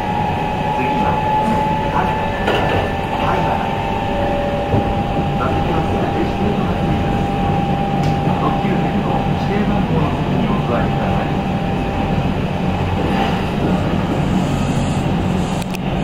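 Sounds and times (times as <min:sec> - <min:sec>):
electric train whine: 0:00.0 - 0:16.0
train wheels rumbling on track: 0:00.0 - 0:16.0.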